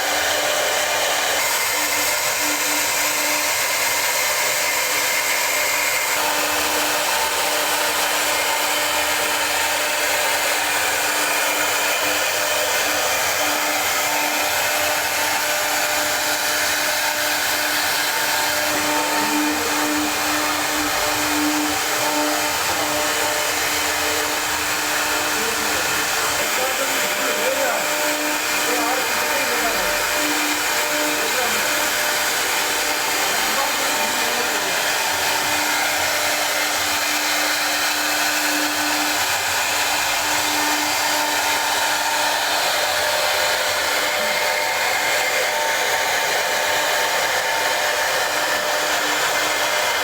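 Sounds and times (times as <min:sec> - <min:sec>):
router spindle rushing: 0:00.0 - 0:50.0.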